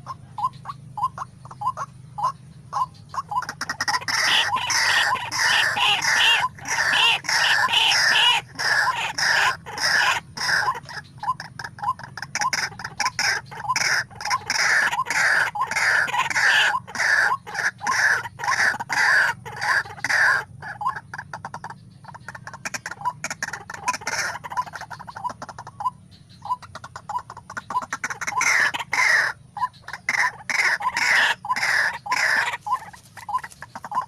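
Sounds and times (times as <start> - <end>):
bird harsh repeated calls: 0.0 - 34.0.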